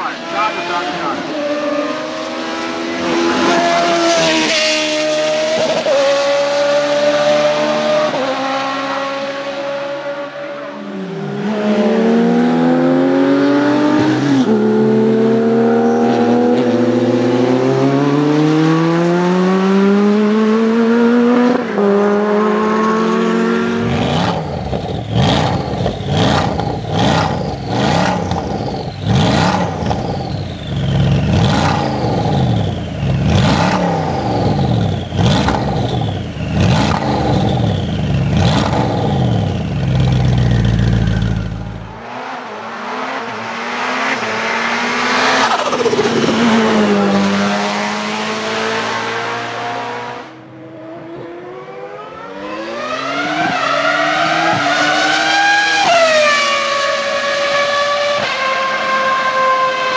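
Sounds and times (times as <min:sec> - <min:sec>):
race car passing at high revs: 0:00.0 - 0:30.4, 0:31.0 - 0:59.9
race car accelerating through gears: 0:00.0 - 0:59.9
car engine revving in blips: 0:11.3 - 0:59.9.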